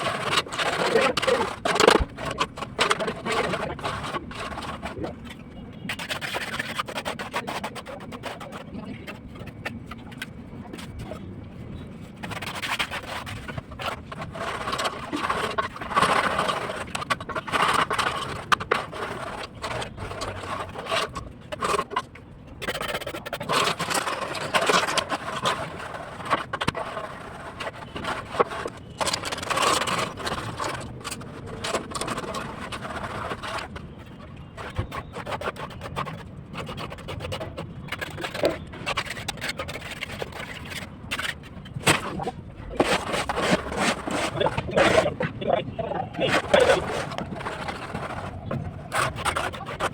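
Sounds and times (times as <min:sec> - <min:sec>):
hand tools scraping concrete: 0:00.0 - 0:11.2, 0:12.0 - 0:49.9.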